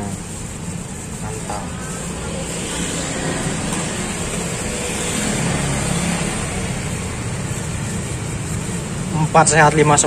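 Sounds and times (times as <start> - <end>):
motor vehicle engine rumble: 0.0 - 10.0.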